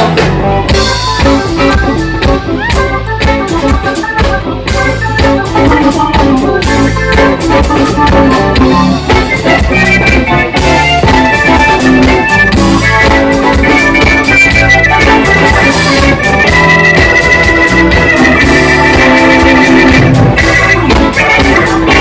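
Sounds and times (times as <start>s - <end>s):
blues guitar: 0.0s - 22.0s
drum kit beat: 0.0s - 22.0s
held organ chords: 0.0s - 22.0s.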